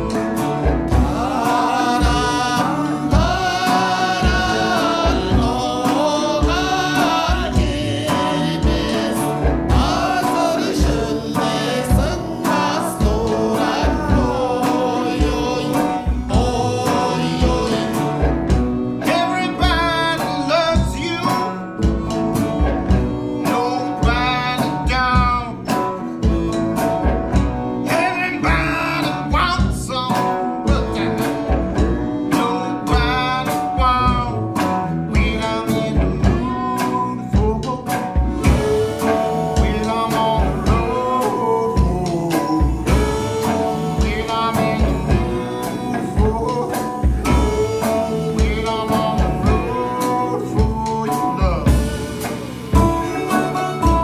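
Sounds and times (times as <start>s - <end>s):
guitar: 0.0s - 54.0s
person singing: 0.0s - 54.0s
steady drum beat: 0.0s - 54.0s.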